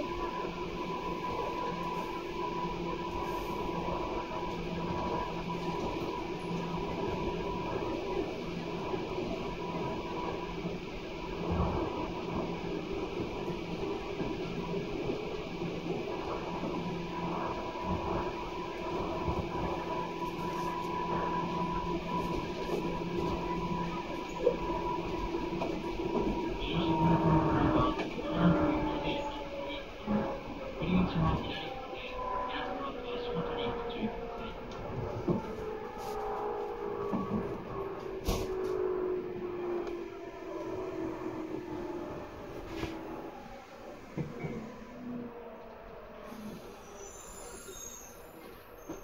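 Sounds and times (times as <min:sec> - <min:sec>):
electric train motor hum: 0:00.0 - 0:48.8
wheels rumbling on track: 0:00.0 - 0:49.0.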